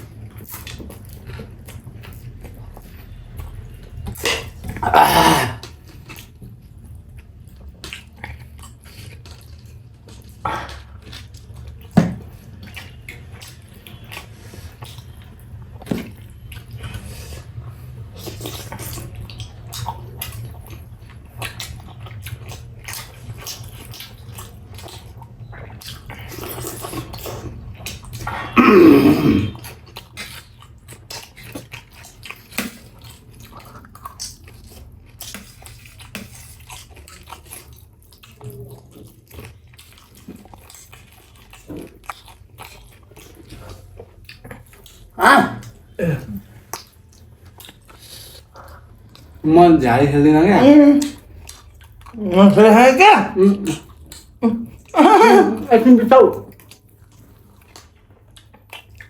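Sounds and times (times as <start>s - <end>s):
chewing and smacking: 0.0s - 4.9s, 5.5s - 28.6s, 29.5s - 52.7s, 53.4s - 55.0s, 56.0s - 59.0s.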